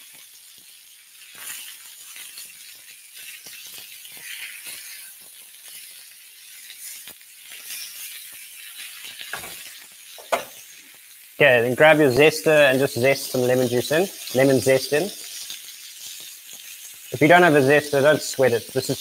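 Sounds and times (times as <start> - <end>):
kebabs sizzling on griddle: 0.0 - 19.0.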